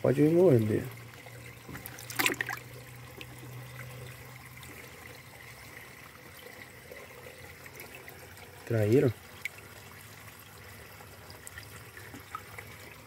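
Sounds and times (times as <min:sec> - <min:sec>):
water sloshing in a bucket: 0:00.1 - 0:13.0.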